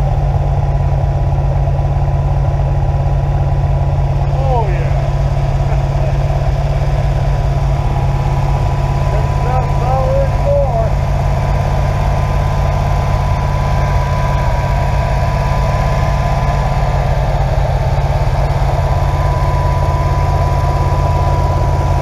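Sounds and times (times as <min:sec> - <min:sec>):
car engine idling: 0:00.0 - 0:22.0
thin steady whine: 0:00.0 - 0:22.0.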